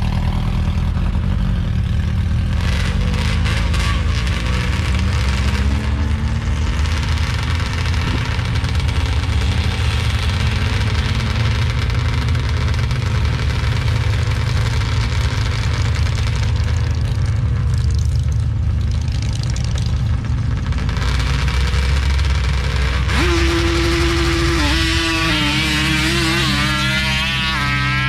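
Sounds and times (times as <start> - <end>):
off-road vehicle engines revving: 0.0 - 28.0.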